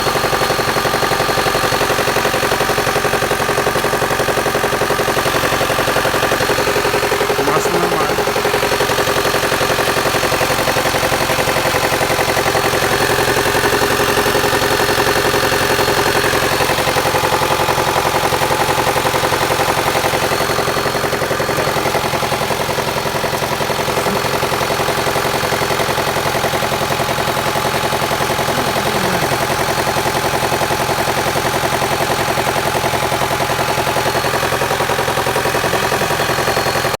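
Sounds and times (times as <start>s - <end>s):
engine idling: 0.0s - 37.0s
engine knocking: 0.0s - 37.0s.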